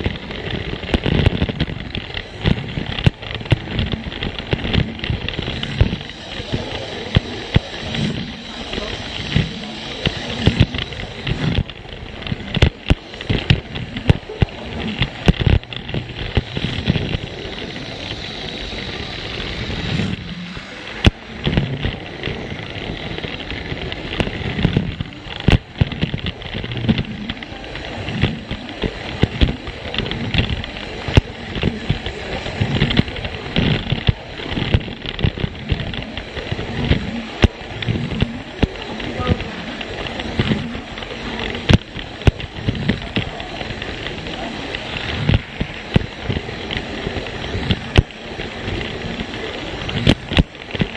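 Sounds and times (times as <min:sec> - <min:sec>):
clicks and clatters: 0:00.0 - 0:50.9
toy train running on plastic track: 0:00.0 - 0:50.9.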